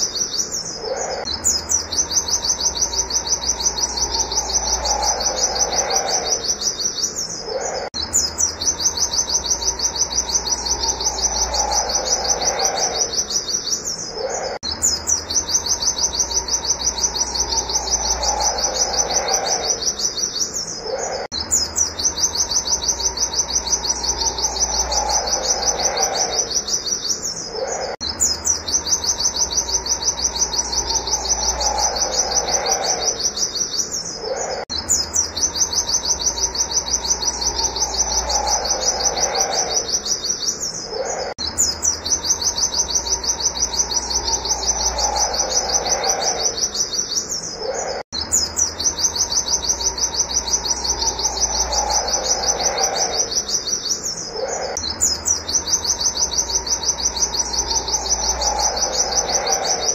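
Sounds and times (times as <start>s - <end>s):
bird singing rapid high notes: 0.0s - 59.9s.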